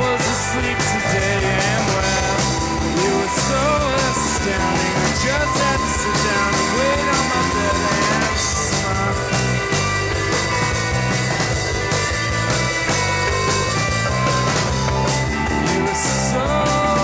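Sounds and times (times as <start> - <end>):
bending electric guitar lead: 0.0 - 17.0
live rock band playing: 0.0 - 17.0.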